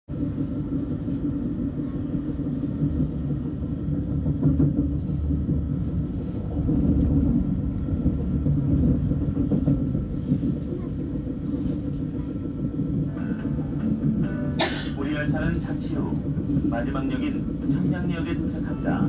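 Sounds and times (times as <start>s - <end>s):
train interior low rumble: 0.1s - 19.0s.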